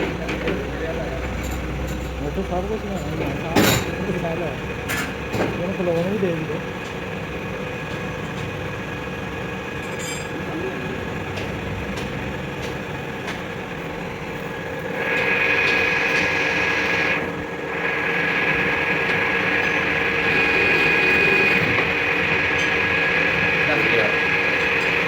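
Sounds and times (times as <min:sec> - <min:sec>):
power tool whining: 0:00.0 - 0:25.0.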